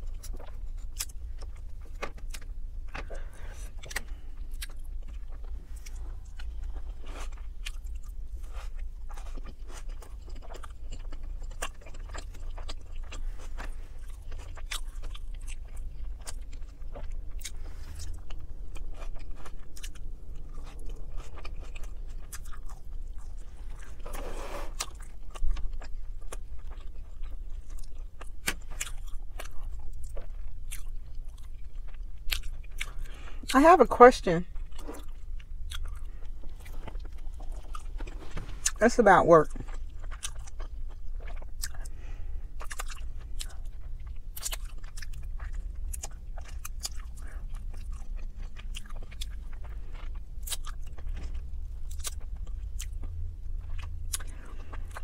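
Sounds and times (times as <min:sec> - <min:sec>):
chewing and mouth smacking: 0:00.0 - 0:33.5, 0:34.5 - 0:38.8, 0:39.4 - 0:55.0.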